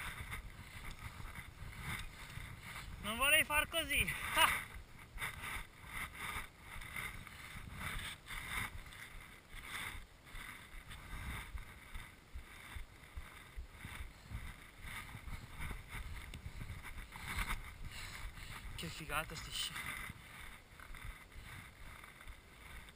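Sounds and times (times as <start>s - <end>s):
skis swishing through snow: 0.0s - 22.9s
snow hitting camera: 0.0s - 22.9s.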